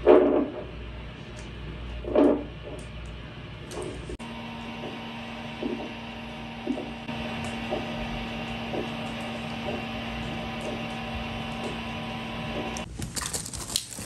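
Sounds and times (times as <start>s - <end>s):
steady hum: 0.0s - 12.9s.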